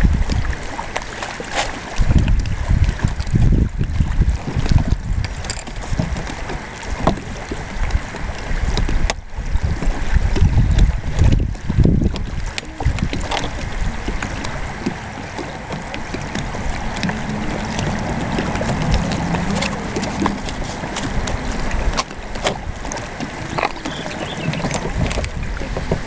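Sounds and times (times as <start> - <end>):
wind buffeting microphone: 0.0 - 26.0
kayak panels clicking and knocking: 0.2 - 26.0.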